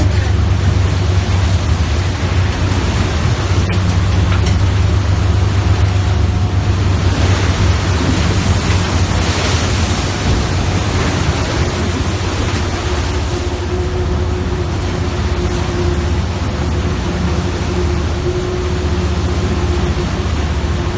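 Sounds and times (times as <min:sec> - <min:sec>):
boat engine drone: 0:00.0 - 0:20.9
wind and water rush: 0:00.0 - 0:20.9.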